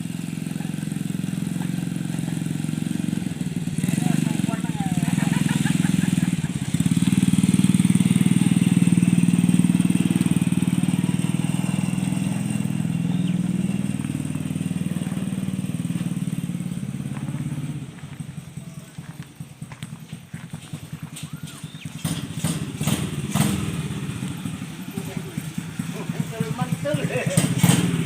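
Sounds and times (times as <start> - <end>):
mini tractor engine running: 0.0 - 28.0.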